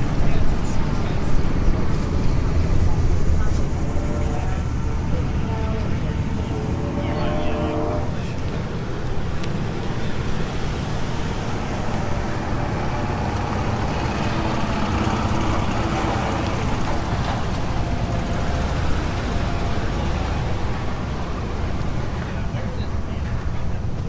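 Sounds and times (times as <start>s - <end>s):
engine rumbling: 0.0s - 24.0s.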